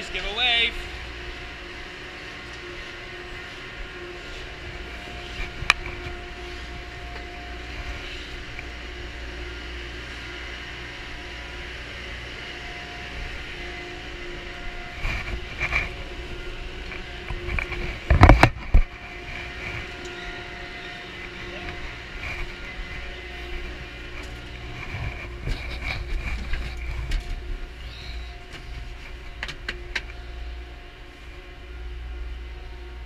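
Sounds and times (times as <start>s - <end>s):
lift machinery hum and rumble: 0.0s - 33.0s.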